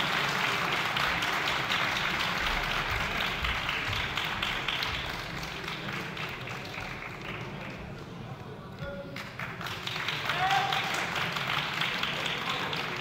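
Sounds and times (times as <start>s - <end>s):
crowd applauding: 0.0s - 8.1s, 9.2s - 13.0s.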